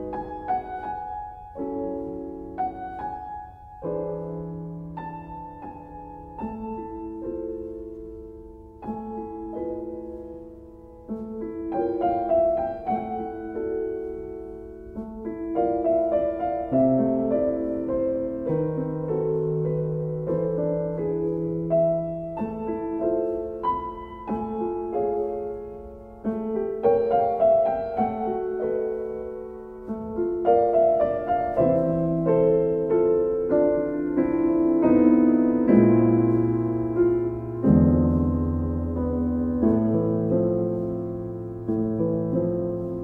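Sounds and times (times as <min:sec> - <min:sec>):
slow solo piano: 0:00.0 - 0:43.0.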